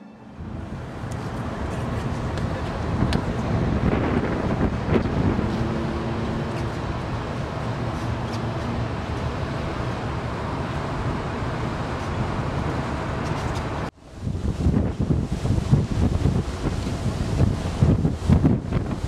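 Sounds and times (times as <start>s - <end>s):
ship rumble: 0.0s - 19.0s
wind noise: 0.3s - 19.0s.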